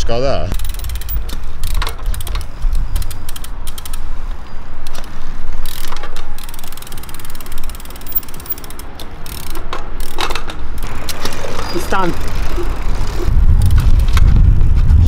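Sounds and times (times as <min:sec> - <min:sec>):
bicycle freewheel ratchet clicking: 0:00.5 - 0:04.1, 0:04.8 - 0:14.3.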